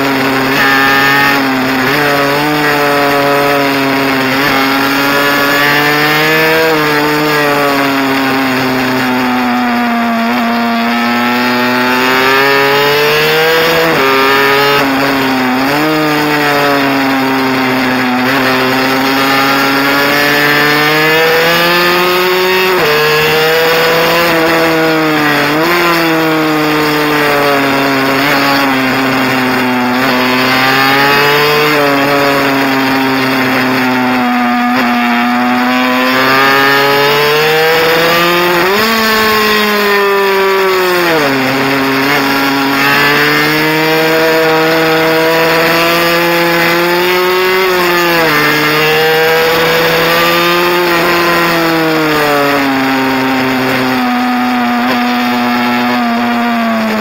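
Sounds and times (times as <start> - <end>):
mini bike engine revving: 0.0 - 57.0.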